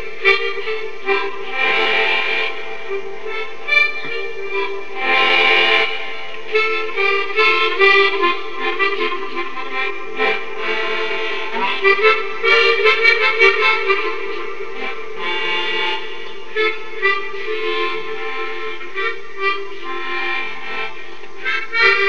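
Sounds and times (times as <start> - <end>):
free-reed instrument melody: 0.0 - 22.0
held low chord: 0.0 - 22.0.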